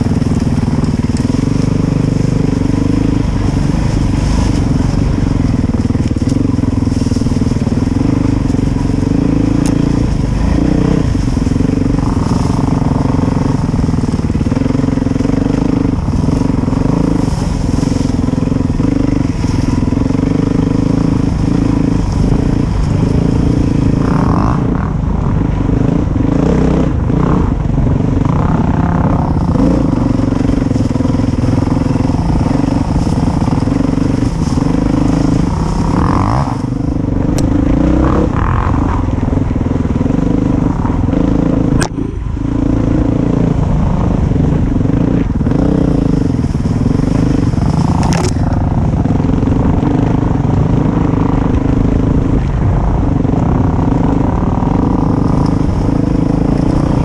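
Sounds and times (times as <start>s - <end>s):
dirt bike engine: 0.0s - 57.0s.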